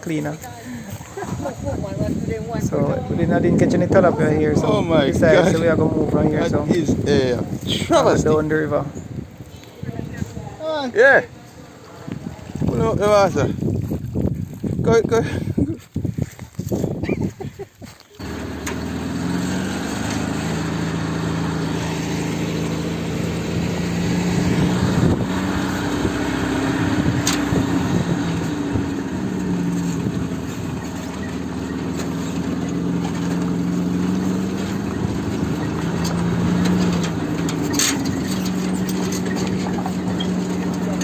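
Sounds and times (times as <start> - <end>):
vehicle engine driving off: 0.0 - 14.2, 18.2 - 41.0.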